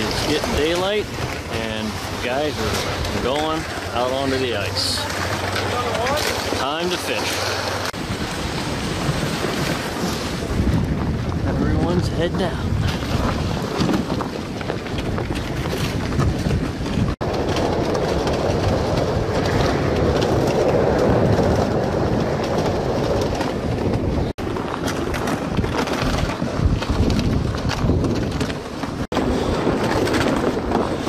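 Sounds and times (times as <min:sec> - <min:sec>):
crunching and scraping on ice: 0:00.0 - 0:10.6, 0:12.5 - 0:31.0
wind buffeting microphone: 0:00.0 - 0:31.0.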